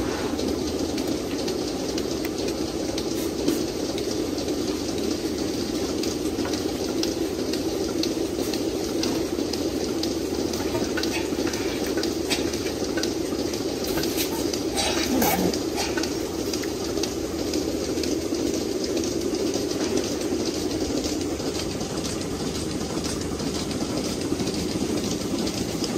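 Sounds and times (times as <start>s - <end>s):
milking machinery hum and hiss: 0.0s - 25.9s.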